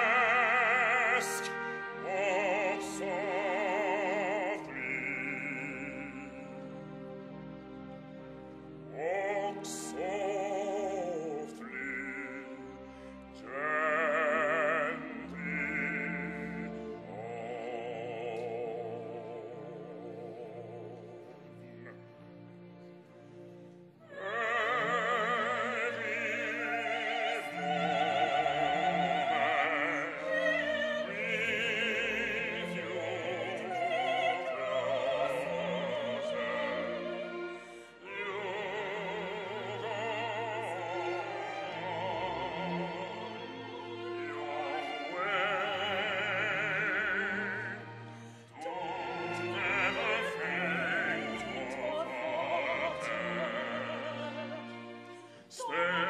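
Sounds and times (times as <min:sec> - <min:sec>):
operatic singing with vibrato: 0:00.0 - 0:56.0.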